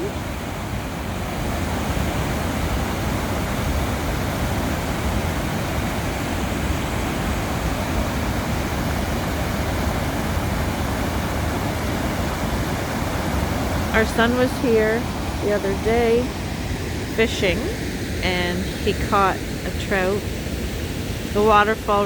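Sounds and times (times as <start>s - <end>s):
water rushing over spillway: 0.0s - 22.0s.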